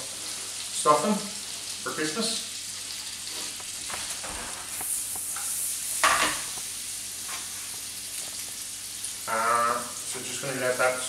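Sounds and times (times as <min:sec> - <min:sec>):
onion sizzling in frying pan: 0:00.0 - 0:11.0.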